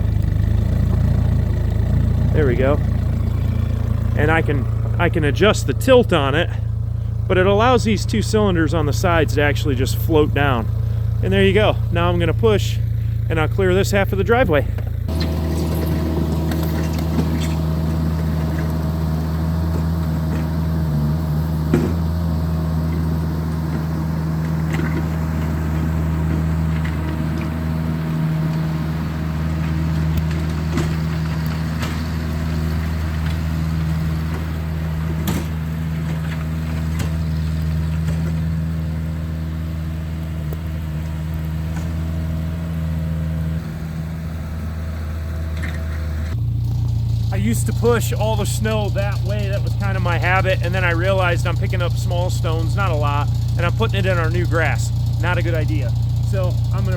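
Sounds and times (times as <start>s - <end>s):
loader engine running: 0.0s - 56.9s.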